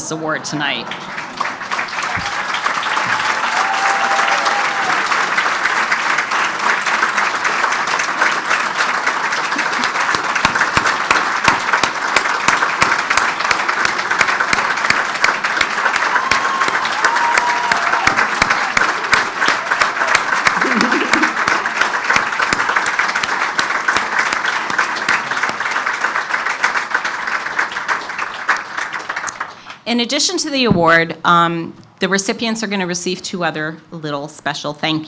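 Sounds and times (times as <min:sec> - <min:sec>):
large audience applauding: 0:00.8 - 0:29.8.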